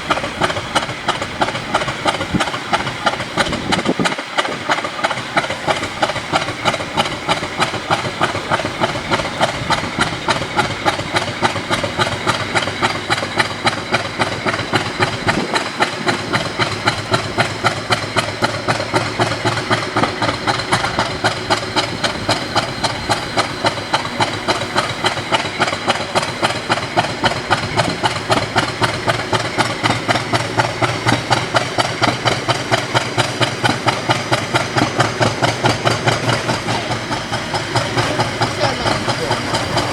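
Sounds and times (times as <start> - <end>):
diesel locomotive engine idling: 0.0 - 39.9
exhaust hiss: 0.0 - 39.9.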